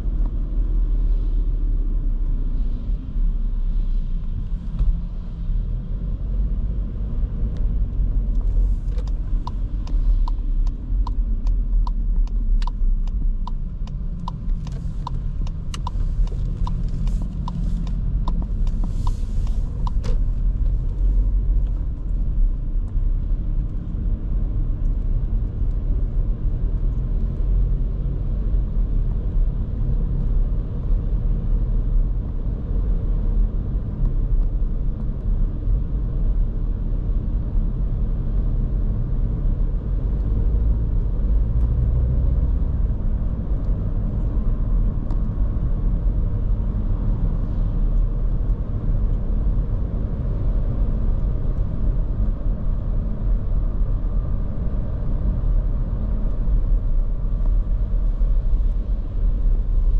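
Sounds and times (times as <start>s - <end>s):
car engine rumble: 0.0s - 59.9s
tyre road noise: 0.0s - 59.9s.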